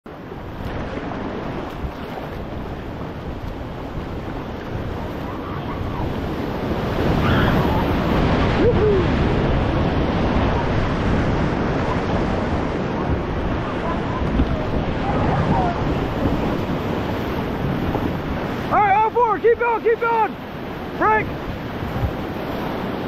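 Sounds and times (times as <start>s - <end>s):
whitewater rapids roaring: 0.3s - 23.0s.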